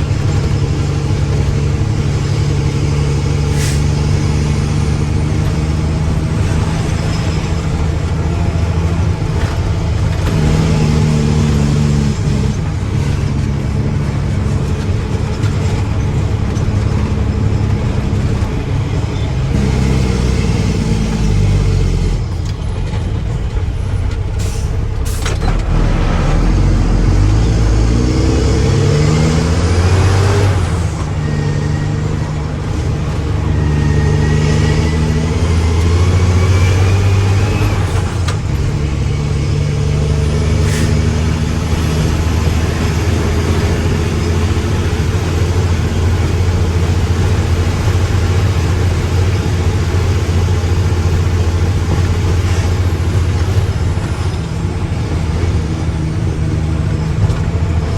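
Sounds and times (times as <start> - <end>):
diesel truck engine revving: 0.0 - 57.9.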